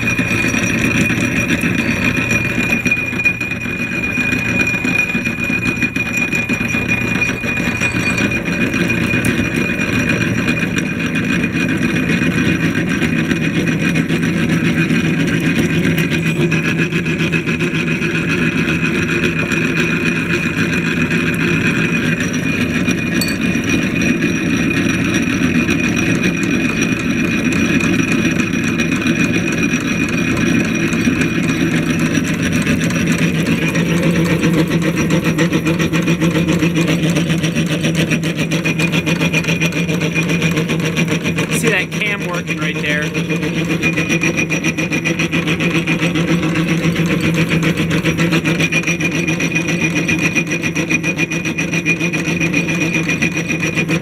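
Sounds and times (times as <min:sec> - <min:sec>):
constant high whine: 0:00.0 - 0:37.5, 0:38.4 - 0:54.0
hand-cranked drill press cutting metal: 0:00.0 - 0:54.0.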